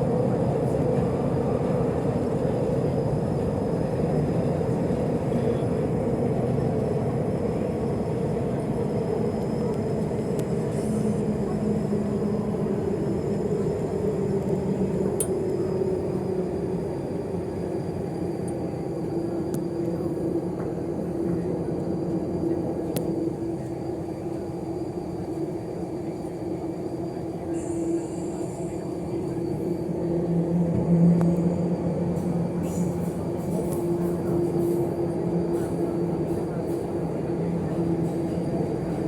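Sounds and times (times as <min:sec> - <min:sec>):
train car rumble: 0:00.0 - 0:39.0.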